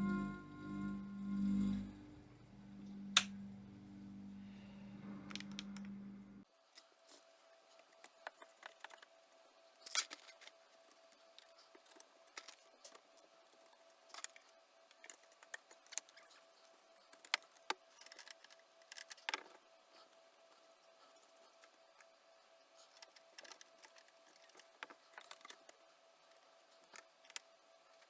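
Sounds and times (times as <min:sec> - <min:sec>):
faint steady high hum: 0:00.0 - 0:28.0.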